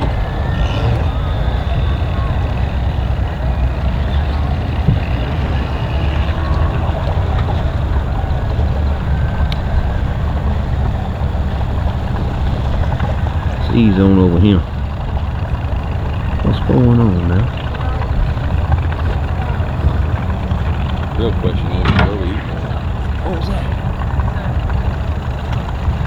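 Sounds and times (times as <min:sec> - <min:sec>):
faint voices: 0:00.0 - 0:26.0
vehicle engine running: 0:00.0 - 0:26.0.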